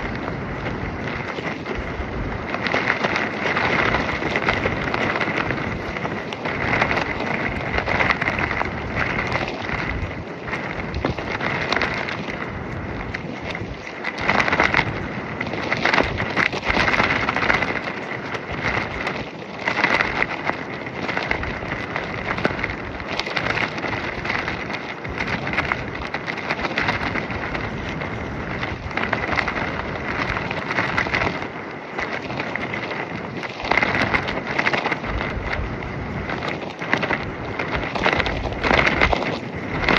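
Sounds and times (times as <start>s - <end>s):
fabric flapping in wind: 0.0s - 39.9s
wind buffeting microphone: 0.0s - 39.9s.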